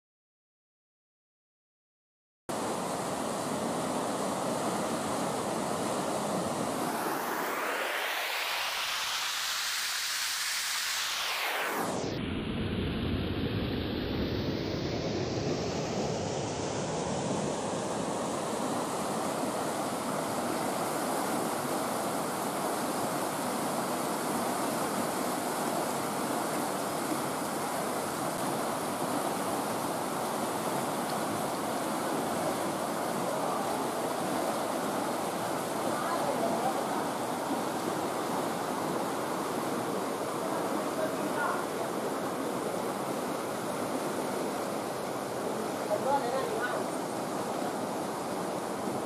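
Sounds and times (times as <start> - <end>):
river rapids roaring: 2.6 - 12.0, 16.0 - 49.0.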